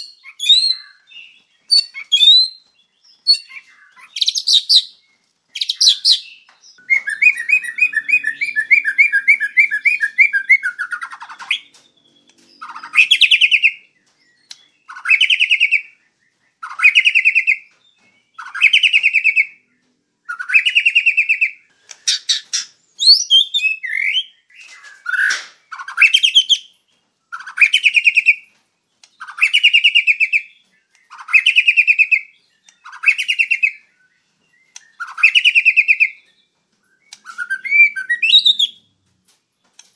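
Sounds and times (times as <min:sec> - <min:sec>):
bird singing trills: 0:00.0 - 0:39.0.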